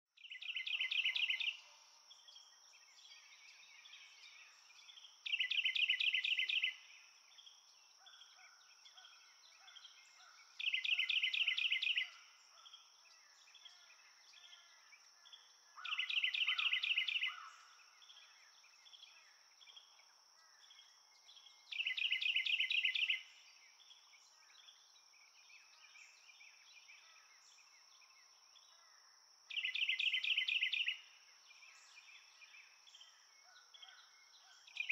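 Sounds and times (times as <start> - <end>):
faint bird chirps: 0.0 - 34.9.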